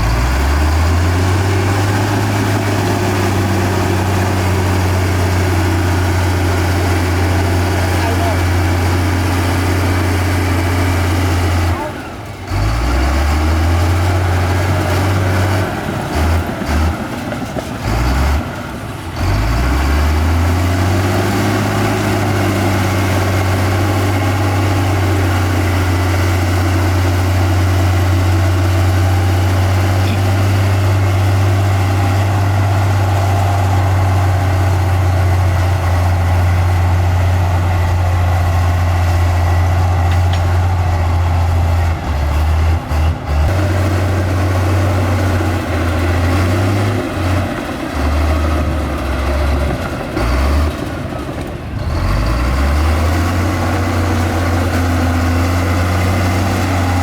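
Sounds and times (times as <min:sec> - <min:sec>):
heavy machinery diesel engine rumble: 0:00.0 - 0:57.0.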